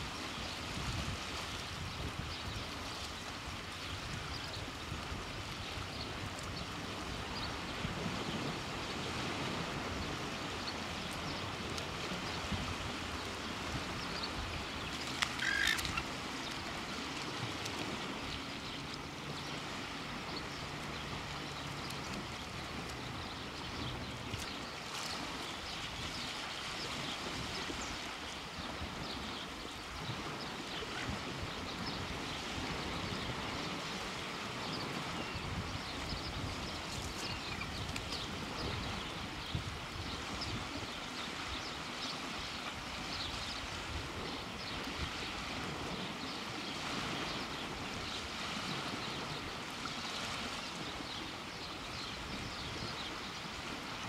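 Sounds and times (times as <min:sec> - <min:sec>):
shallow tidal water: 0:00.0 - 0:54.0
wind: 0:00.0 - 0:54.0.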